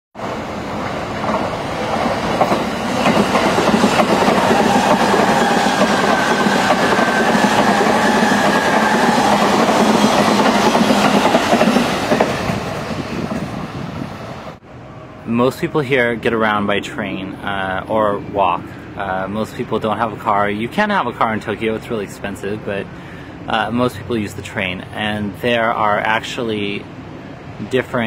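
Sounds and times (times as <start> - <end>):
electric train passing: 0.2 - 28.0.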